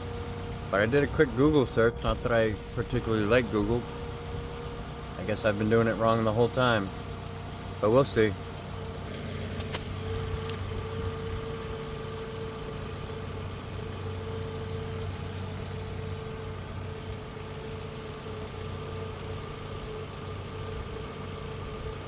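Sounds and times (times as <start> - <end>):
car engine idling: 1.9 - 20.4.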